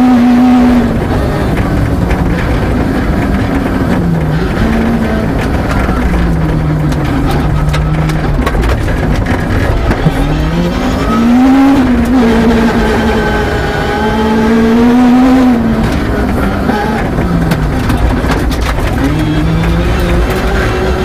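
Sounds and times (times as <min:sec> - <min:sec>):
rally car engine revving: 0:00.0 - 0:21.0
gravel hitting car: 0:00.2 - 0:21.0.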